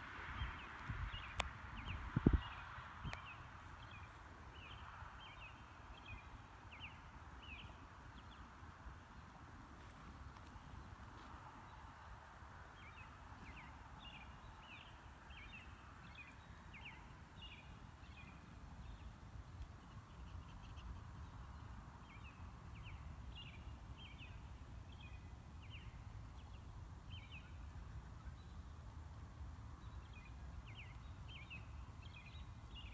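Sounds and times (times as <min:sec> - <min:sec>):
faint low outdoor rumble: 0:00.0 - 0:32.9.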